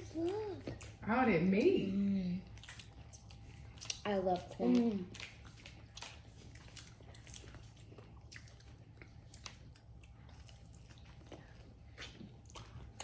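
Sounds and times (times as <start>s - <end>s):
chewing and biting food: 0.0s - 1.0s, 2.4s - 13.0s.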